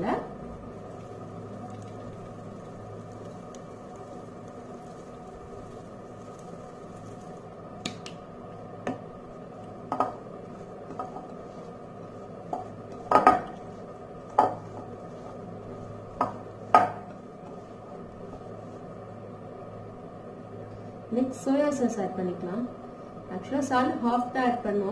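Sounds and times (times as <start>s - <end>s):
low steady hum: 0.0s - 24.9s.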